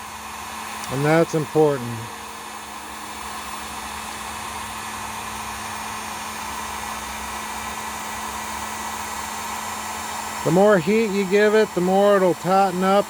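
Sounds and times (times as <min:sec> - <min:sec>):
heat gun blowing with low hum: 0:00.0 - 0:13.0.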